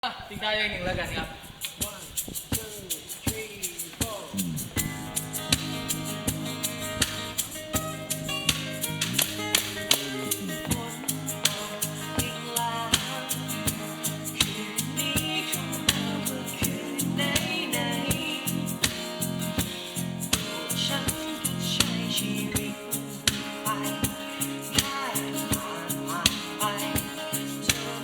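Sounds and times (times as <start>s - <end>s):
shaker beat: 0.9s - 28.0s
acoustic guitar chords: 1.7s - 28.0s.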